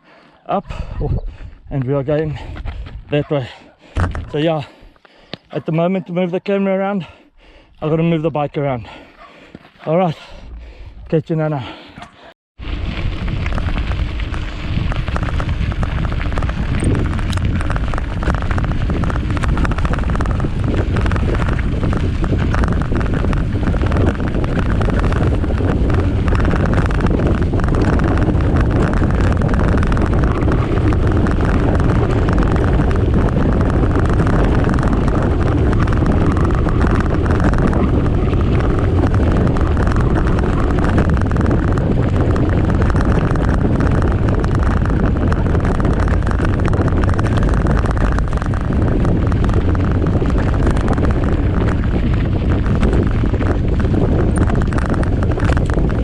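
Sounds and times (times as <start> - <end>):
wind rumble on microphone: 0.5 - 5.0, 12.6 - 56.0
bike tyres rattling over track: 0.7 - 4.8, 12.6 - 56.0.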